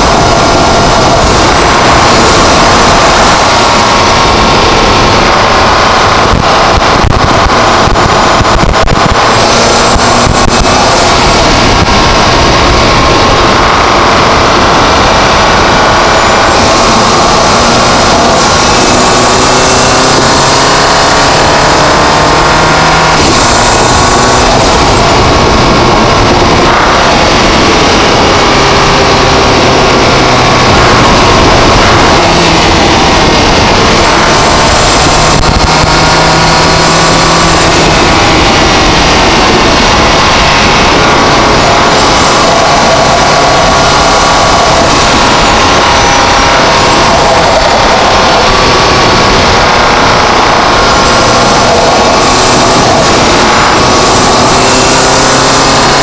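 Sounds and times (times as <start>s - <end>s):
car engine running: 0.0s - 56.0s
wind on microphone: 0.0s - 56.0s.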